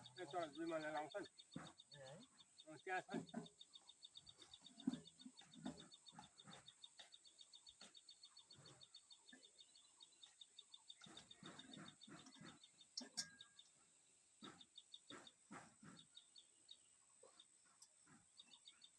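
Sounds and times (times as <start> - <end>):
rapid high-pitched chirping: 0.0 - 18.9.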